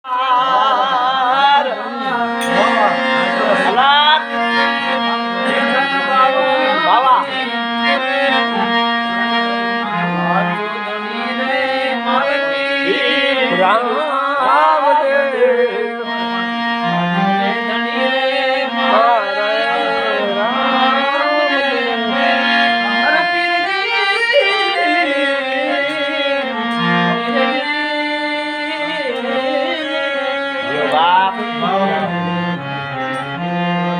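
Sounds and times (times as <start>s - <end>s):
harmonium playing: 0.0s - 33.9s
person singing: 0.0s - 33.9s.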